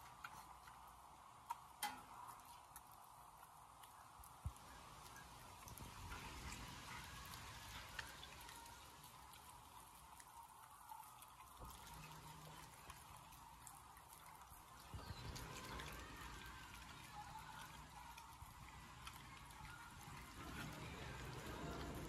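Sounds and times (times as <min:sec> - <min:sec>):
dog licking and chewing meat: 0:00.0 - 0:22.0.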